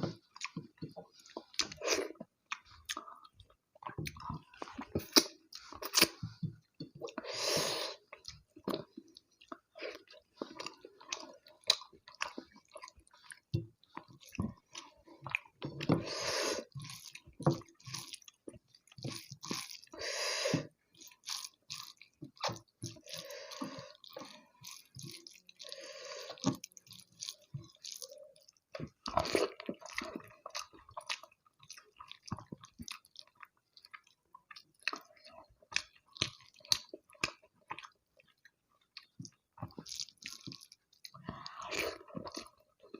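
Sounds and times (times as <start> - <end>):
person chewing food: 0.0 - 42.9.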